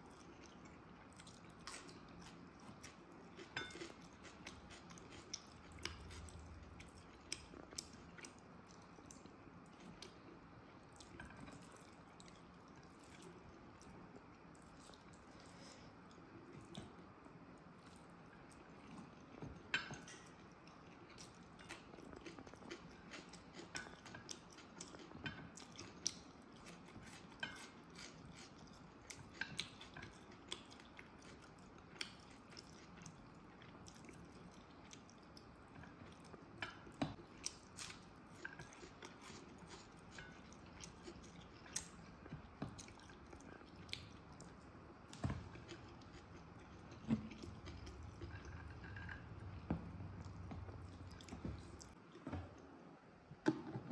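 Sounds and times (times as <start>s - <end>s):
chewing rice: 0.0s - 52.4s.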